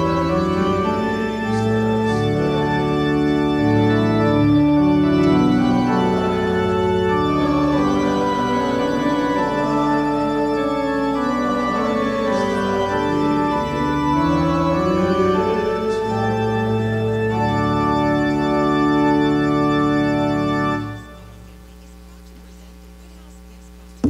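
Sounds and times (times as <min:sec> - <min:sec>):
organ playing a hymn: 0:00.0 - 0:21.4.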